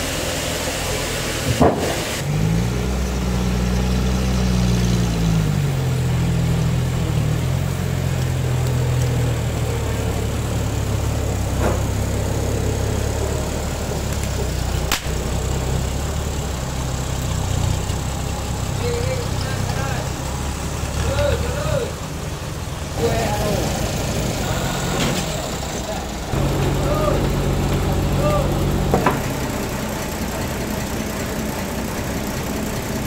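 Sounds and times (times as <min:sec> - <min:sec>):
forklift engine revving: 0:00.0 - 0:33.0.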